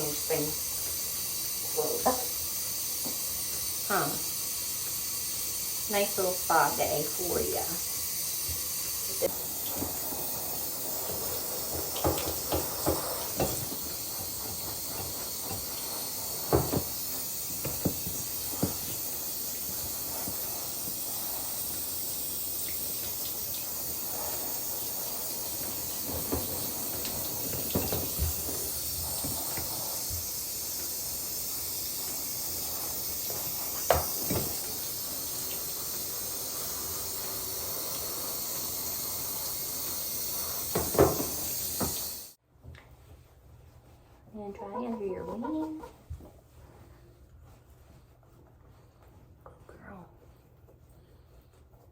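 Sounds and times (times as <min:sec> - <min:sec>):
water running into a sink: 0:00.0 - 0:42.4.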